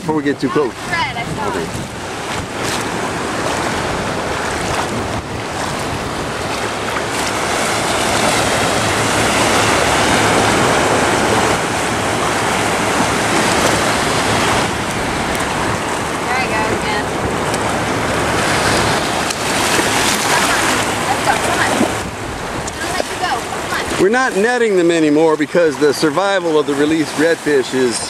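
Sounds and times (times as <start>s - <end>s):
wind on microphone: 0.0s - 24.0s
small surf breaking: 0.5s - 28.0s.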